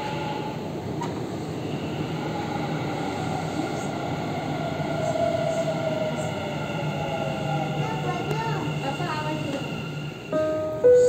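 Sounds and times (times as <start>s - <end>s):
metro train rumble: 0.0s - 11.0s.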